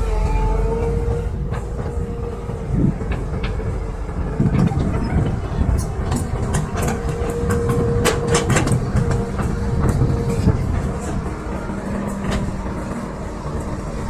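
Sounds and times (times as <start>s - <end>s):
excavator engine rumble: 0.0s - 14.0s.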